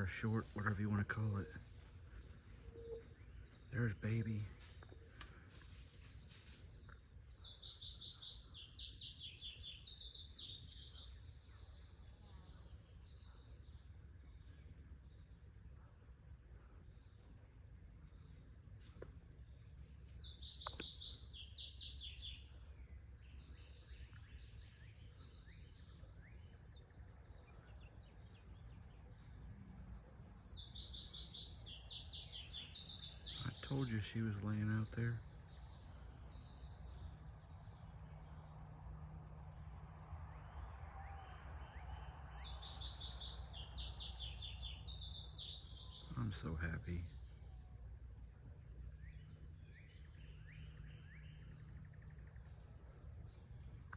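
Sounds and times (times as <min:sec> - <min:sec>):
high insect drone: 0:00.0 - 0:53.9
songbird chirping: 0:00.0 - 0:53.9.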